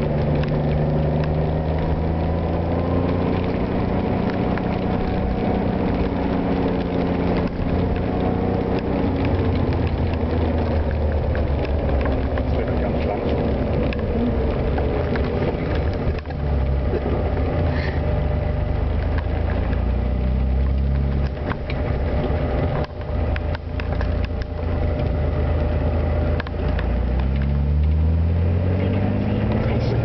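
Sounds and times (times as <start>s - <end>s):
car engine under load: 0.0s - 30.0s.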